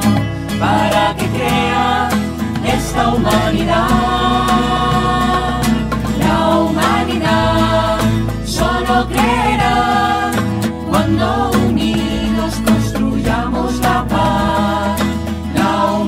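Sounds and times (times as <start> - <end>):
instrumental accompaniment: 0.0 - 16.0
voices singing together: 0.0 - 16.0.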